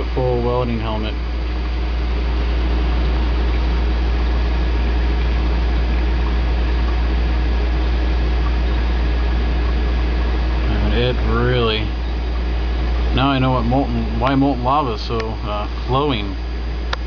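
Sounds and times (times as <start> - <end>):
torch flame hissing: 0.8 - 16.8.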